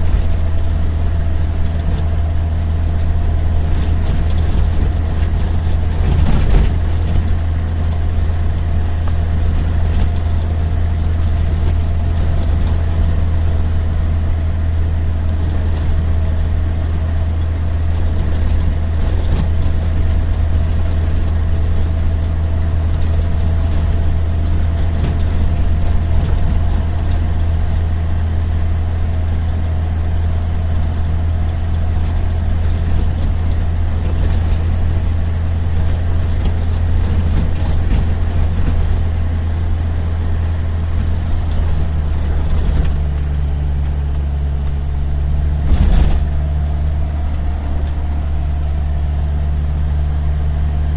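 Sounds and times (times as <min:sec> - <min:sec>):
road noise: 0:00.0 - 0:50.9
vehicle engine drone: 0:00.0 - 0:50.9.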